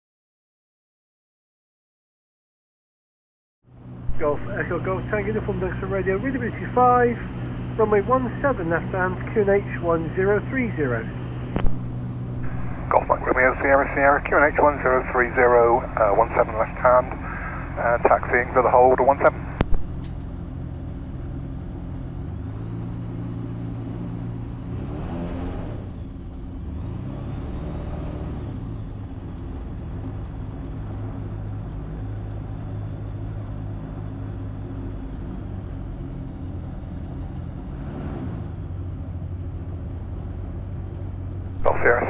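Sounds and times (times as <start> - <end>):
light aircraft engine and propeller: 3.7 - 42.0.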